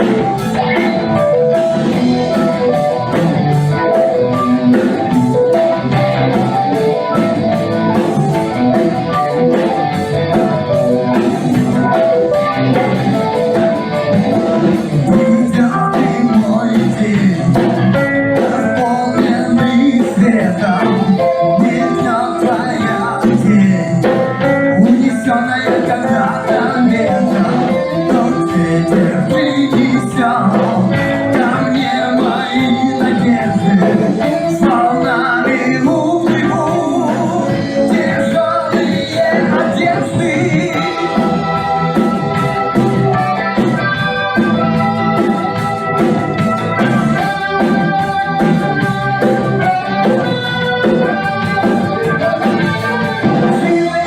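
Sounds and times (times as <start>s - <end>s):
guitar accompaniment: 0.0s - 54.0s
organ-like keyboard chords: 0.0s - 54.0s
person singing: 0.0s - 54.0s.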